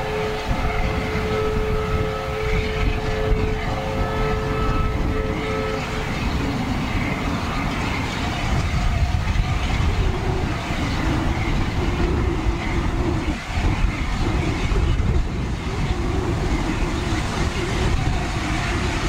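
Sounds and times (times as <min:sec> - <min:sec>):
steam train running: 0:00.0 - 0:19.0
wind buffeting microphone: 0:00.0 - 0:19.0.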